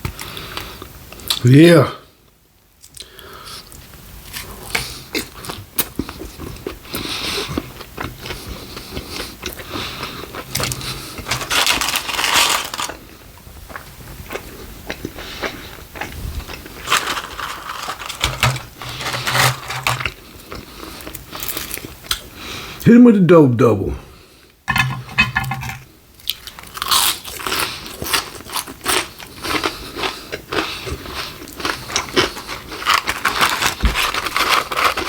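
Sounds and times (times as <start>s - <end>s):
crunchy chewing of food: 2.8s - 22.8s, 26.2s - 35.0s.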